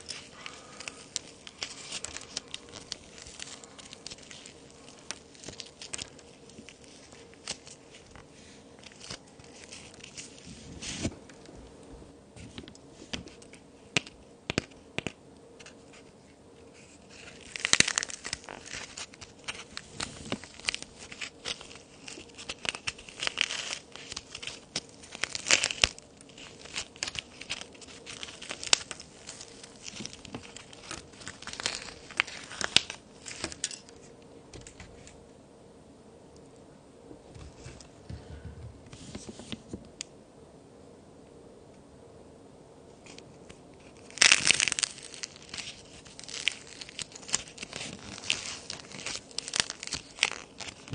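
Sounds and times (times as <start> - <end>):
plaster and clay cracking: 0.0 - 11.5, 12.4 - 16.1, 16.7 - 35.2, 43.8 - 50.9.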